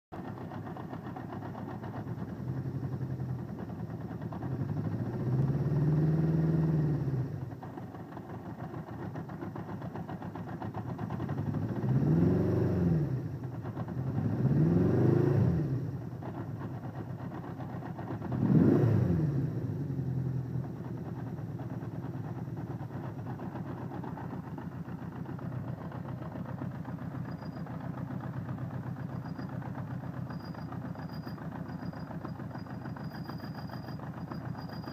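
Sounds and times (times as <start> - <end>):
motorcycle engine idling: 0.2 - 5.7, 7.2 - 12.0, 13.0 - 14.3, 15.7 - 18.4, 19.4 - 34.9.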